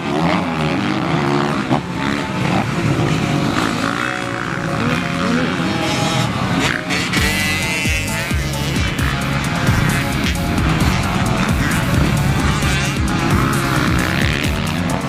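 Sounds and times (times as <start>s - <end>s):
background music: 0.0s - 15.0s
motocross bike engines revving: 0.0s - 15.0s.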